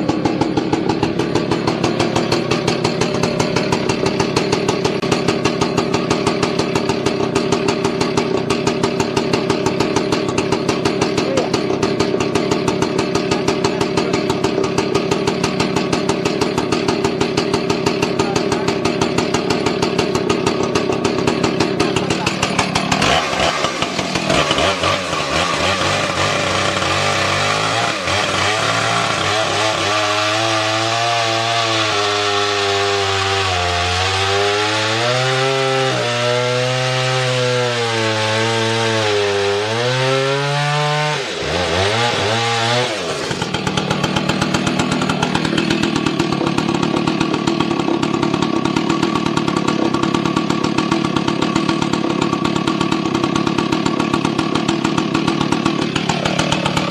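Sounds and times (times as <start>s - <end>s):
chainsaw cutting: 0.0s - 56.9s
chainsaw idling: 0.0s - 56.9s.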